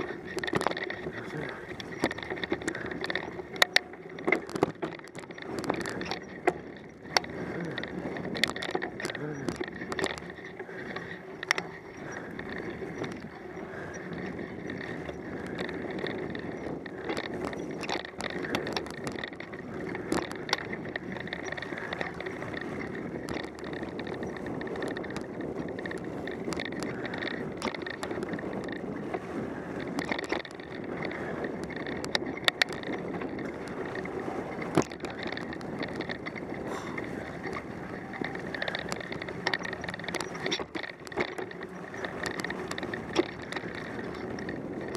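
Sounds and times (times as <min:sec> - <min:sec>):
bicycle tyre and drivetrain noise: 0:00.0 - 0:44.9
bike clicks and rattles: 0:00.0 - 0:44.9.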